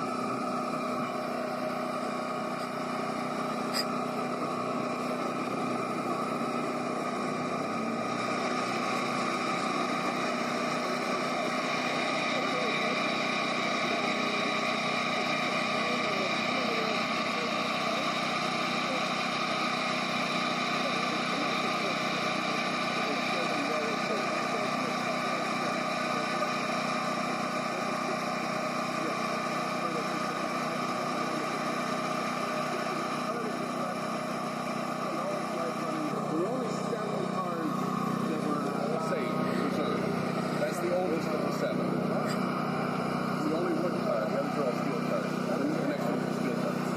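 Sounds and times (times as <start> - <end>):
vehicle motor humming: 0.0 - 46.9.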